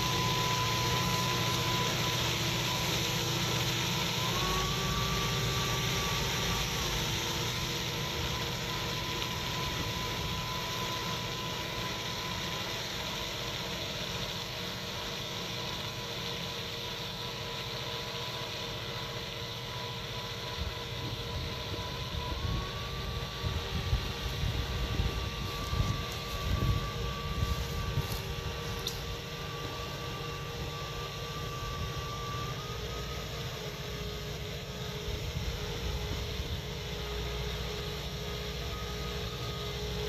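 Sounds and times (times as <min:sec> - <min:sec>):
machinery whine: 0:00.0 - 0:40.0.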